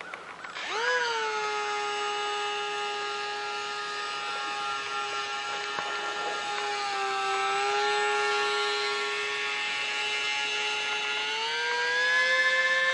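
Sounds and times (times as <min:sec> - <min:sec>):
electric motor and propeller whine: 0:00.0 - 0:12.9.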